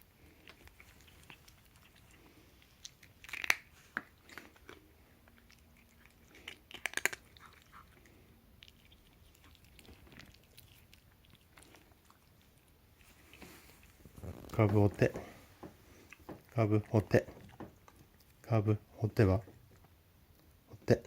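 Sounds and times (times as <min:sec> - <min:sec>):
cat chewing crunchy treats: 0:00.1 - 0:18.4.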